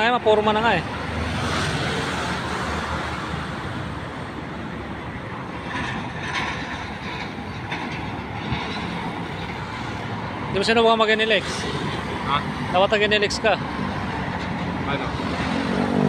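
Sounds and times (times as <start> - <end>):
highway traffic: 0.0 - 16.0
vehicle passing: 0.3 - 7.5, 8.3 - 16.0.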